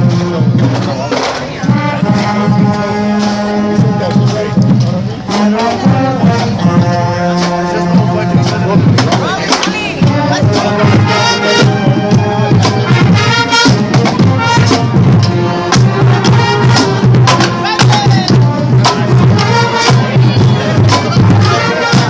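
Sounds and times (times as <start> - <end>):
drum beat: 0.0 - 22.0.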